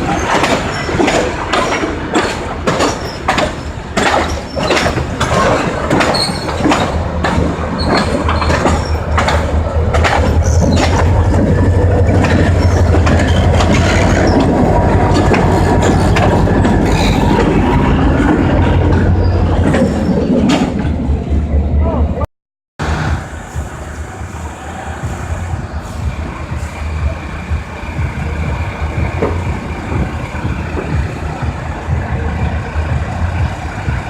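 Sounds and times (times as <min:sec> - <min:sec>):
train cars clattering over rail joints: 0:00.0 - 0:21.5, 0:27.4 - 0:34.0.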